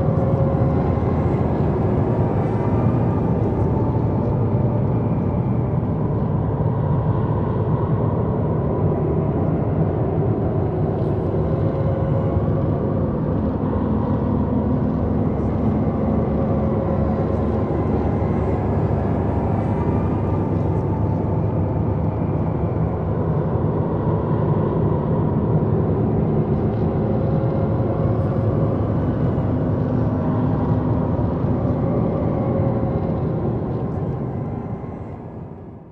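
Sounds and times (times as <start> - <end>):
low rumbling drone: 0.0 - 35.9.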